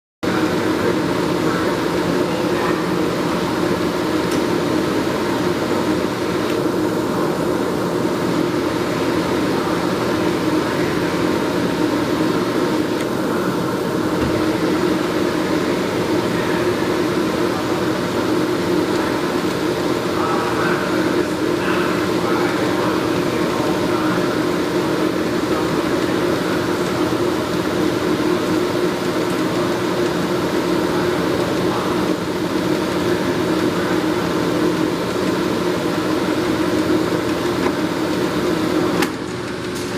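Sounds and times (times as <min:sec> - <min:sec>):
lathe humming: 0:00.2 - 0:39.9.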